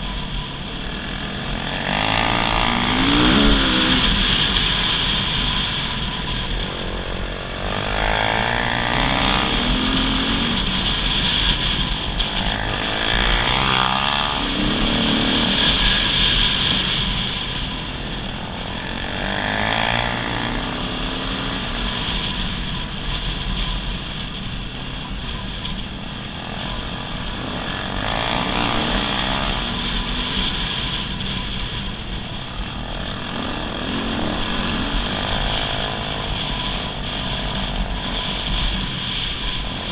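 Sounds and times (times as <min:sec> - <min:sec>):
dirt bike engine revving: 0:00.0 - 0:23.4, 0:26.2 - 0:39.9.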